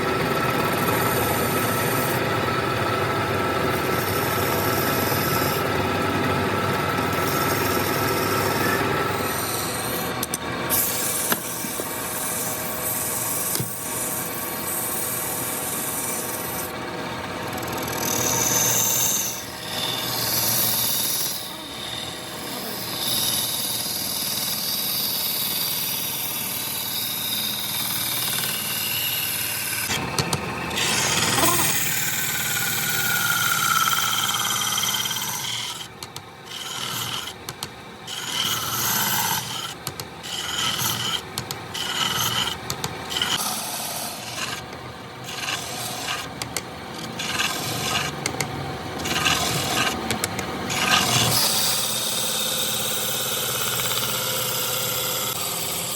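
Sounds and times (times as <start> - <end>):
wood rubbing and rasping: 6.8 - 16.7, 17.5 - 30.0, 30.7 - 55.9.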